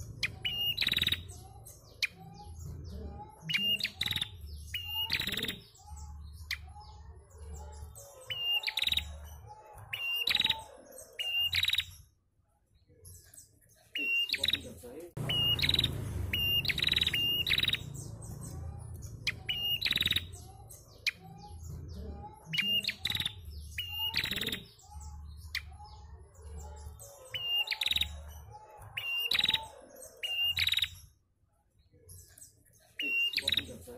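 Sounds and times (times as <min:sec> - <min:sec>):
bird chirping and buzzy calls: 0:00.0 - 0:12.1, 0:13.1 - 0:31.2.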